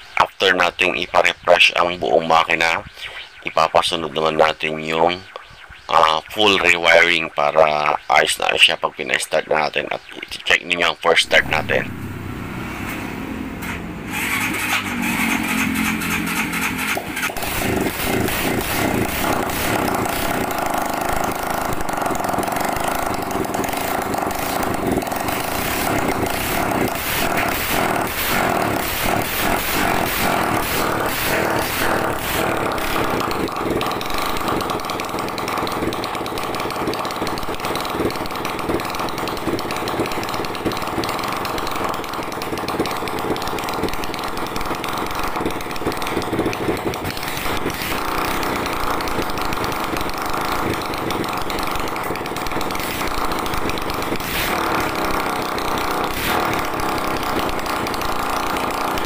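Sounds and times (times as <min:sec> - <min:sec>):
motorcycle engine running: 0:11.2 - 0:59.0.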